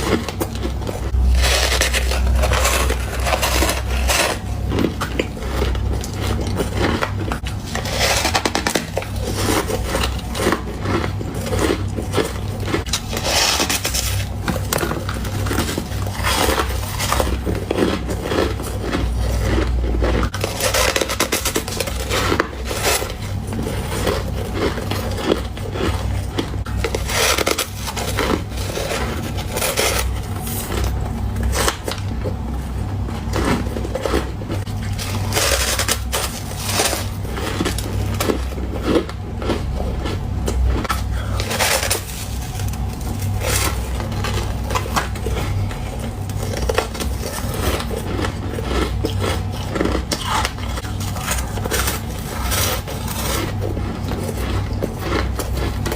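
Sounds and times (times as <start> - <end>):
ice being chewed: 0.0 - 55.9
steady low hum: 0.0 - 55.9.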